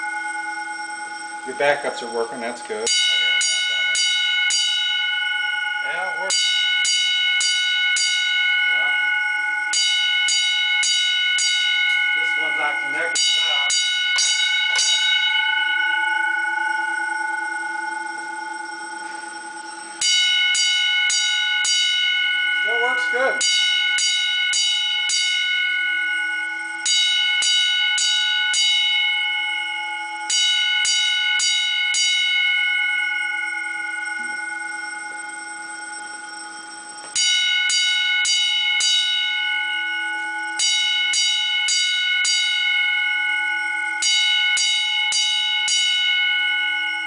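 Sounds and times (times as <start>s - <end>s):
fire alarm bell strokes: 0.0s - 47.0s.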